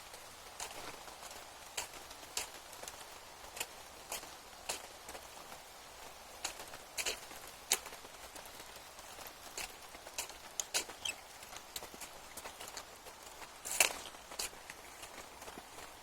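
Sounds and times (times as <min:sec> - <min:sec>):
rain hiss: 0:00.0 - 0:16.0
raindrops tapping: 0:00.0 - 0:16.0.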